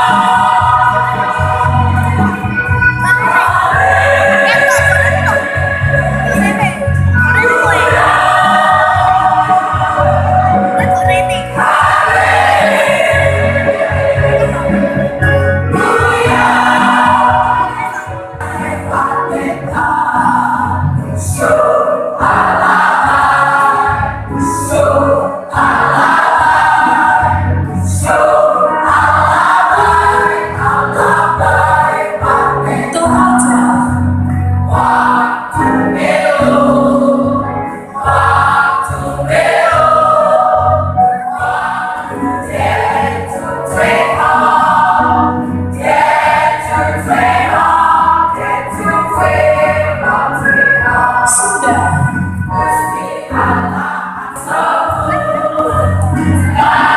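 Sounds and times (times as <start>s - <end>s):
church choir singing: 0.0s - 56.9s.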